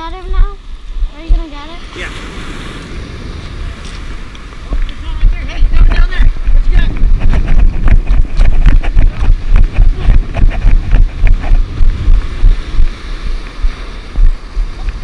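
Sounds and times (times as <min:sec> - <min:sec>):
surf washing: 0:00.0 - 0:15.0
wind buffeting microphone: 0:00.0 - 0:15.0.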